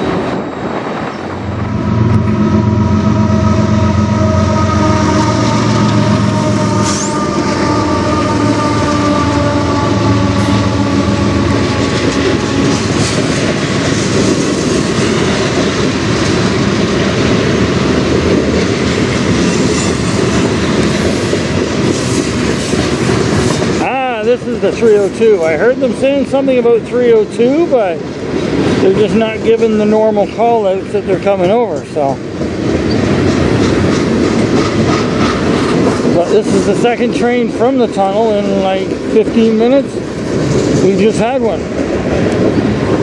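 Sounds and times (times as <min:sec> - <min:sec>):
diesel locomotive engines droning: 0:00.0 - 0:43.0
train wheels clacking over rail joints: 0:04.6 - 0:43.0.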